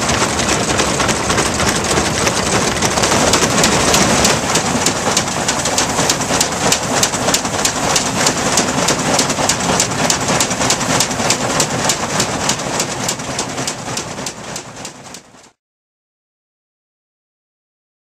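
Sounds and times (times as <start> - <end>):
threshing machine clattering: 0.0 - 15.3.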